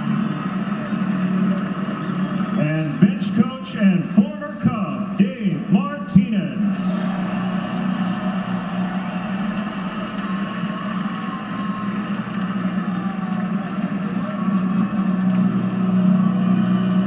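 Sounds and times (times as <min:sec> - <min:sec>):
crowd cheering and applauding: 0:00.0 - 0:03.6, 0:06.5 - 0:17.0.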